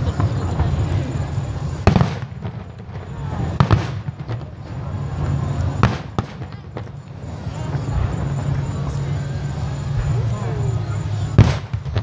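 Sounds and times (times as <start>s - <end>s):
fireworks bangs: 0.0s - 12.0s
low background rumble: 0.0s - 12.0s.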